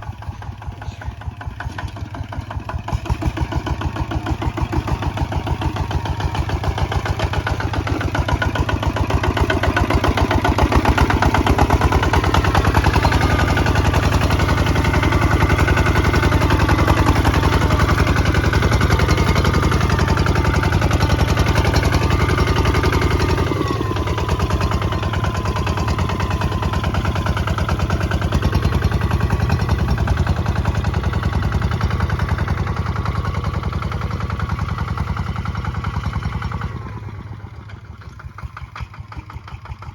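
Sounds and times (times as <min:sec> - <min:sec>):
diesel engine knocking steadily: 0:00.0 - 0:39.9.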